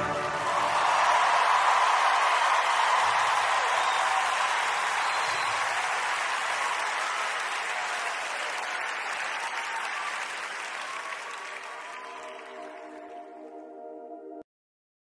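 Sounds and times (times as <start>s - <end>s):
crowd applause: 0.0s - 13.5s.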